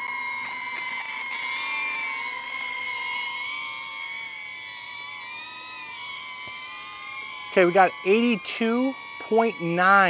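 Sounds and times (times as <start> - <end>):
drone propellers whining: 0.0 - 10.0.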